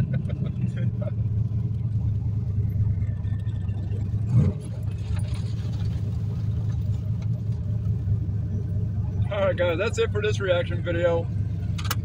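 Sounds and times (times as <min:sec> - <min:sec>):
car engine rumble from inside cabin: 0:00.0 - 0:12.0.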